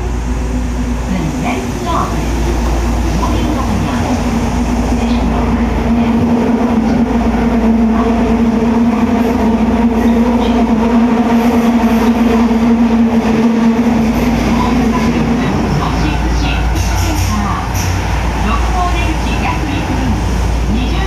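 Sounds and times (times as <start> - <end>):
subway car rumble: 0.0 - 21.0.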